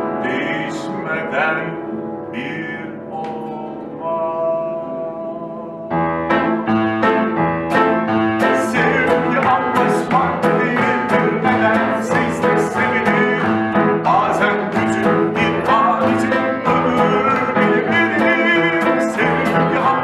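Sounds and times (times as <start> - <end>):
acoustic guitar: 0.0 - 20.0
upright piano: 0.0 - 20.0.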